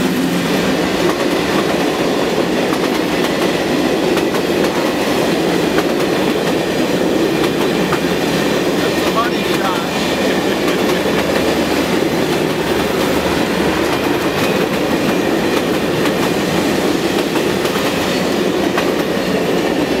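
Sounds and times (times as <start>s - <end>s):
train cars rumbling past: 0.0s - 20.0s.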